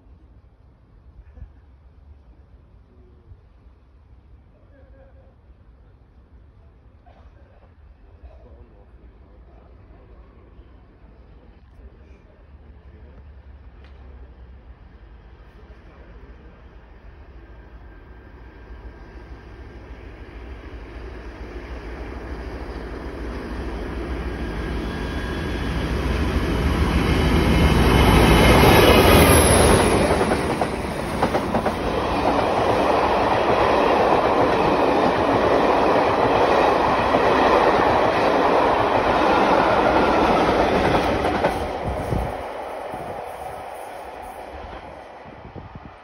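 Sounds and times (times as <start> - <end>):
diesel locomotive engine passing: 8.6 - 46.0.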